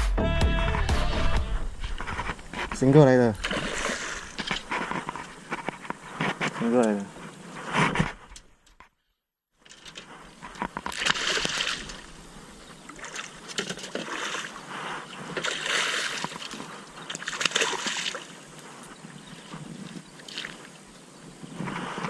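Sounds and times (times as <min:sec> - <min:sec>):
water splashing and sloshing: 0:01.6 - 0:08.8, 0:09.6 - 0:22.0.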